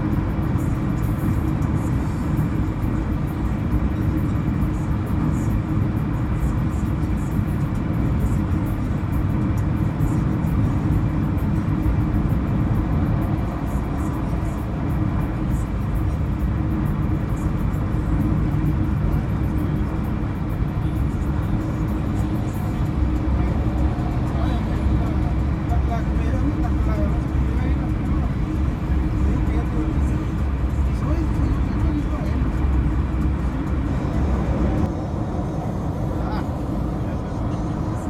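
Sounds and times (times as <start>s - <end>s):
car road and tyre noise: 0.0s - 38.0s.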